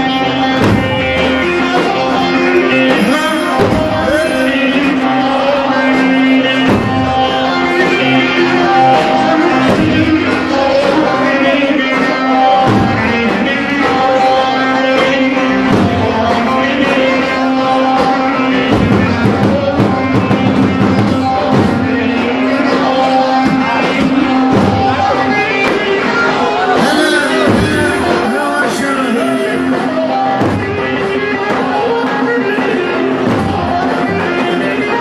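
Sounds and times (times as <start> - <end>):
amplified live band music: 0.0 - 35.0.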